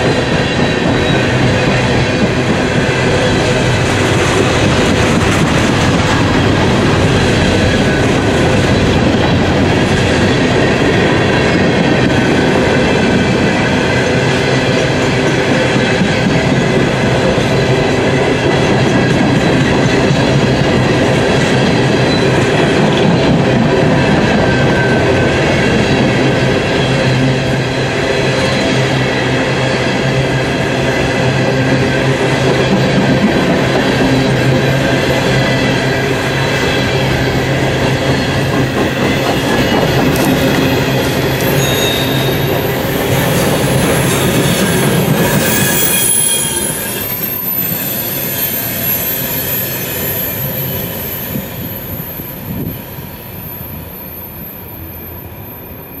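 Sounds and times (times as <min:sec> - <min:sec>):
wheels squealing whine: 0:00.0 - 0:16.6, 0:18.6 - 0:56.0
train wheels rumbling on rails: 0:00.0 - 0:56.0.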